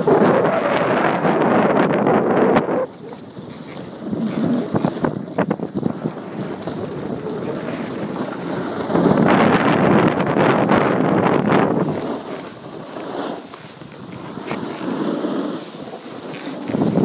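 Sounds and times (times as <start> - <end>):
snowboards scraping over snow: 0.0 - 17.0
wind buffeting microphone: 0.0 - 17.0.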